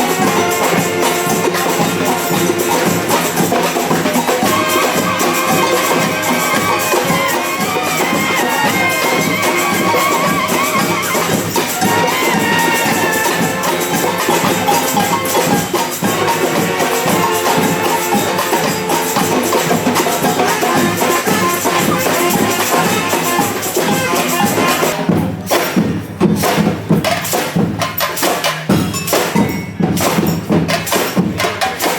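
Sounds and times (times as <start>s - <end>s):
acoustic street band playing: 0.0s - 31.9s
drum and percussion strikes: 0.0s - 31.9s.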